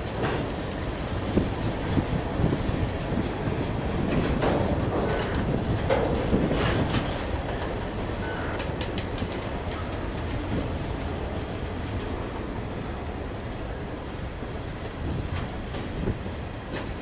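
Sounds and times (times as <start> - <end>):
train wheels rumbling on rail: 0.0 - 17.0
wheels clicking over rail joints: 0.0 - 17.0.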